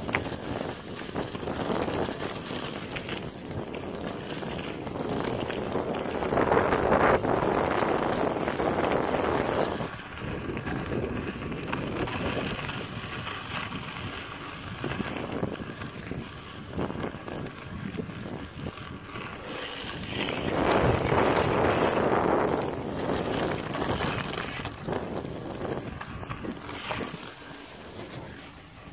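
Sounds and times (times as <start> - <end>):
bike rolling on gravel: 0.0 - 28.9
wind buffeting microphone: 0.0 - 28.9.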